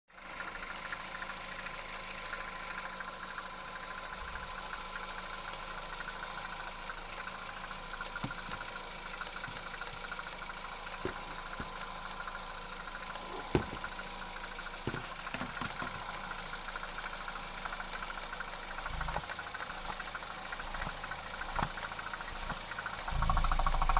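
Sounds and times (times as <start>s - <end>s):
car engine idling: 0.1s - 23.9s
fast even ticking: 0.3s - 23.9s.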